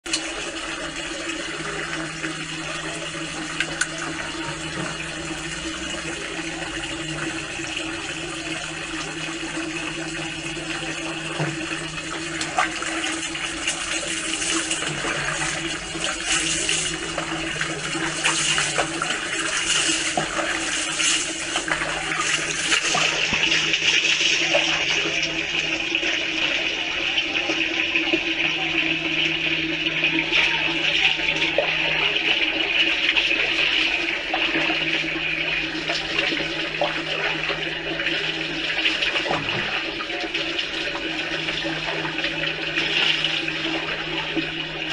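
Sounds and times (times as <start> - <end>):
water splashing from dipper: 0.0 - 26.8, 29.1 - 44.9
rushing water: 0.1 - 44.9.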